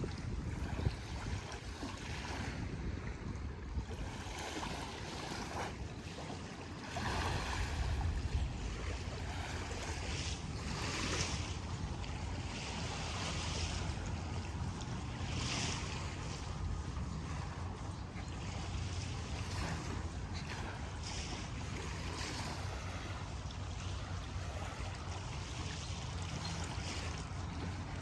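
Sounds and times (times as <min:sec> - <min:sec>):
small waves washing onto beach: 0:00.0 - 0:28.0
wind on microphone: 0:00.0 - 0:28.0.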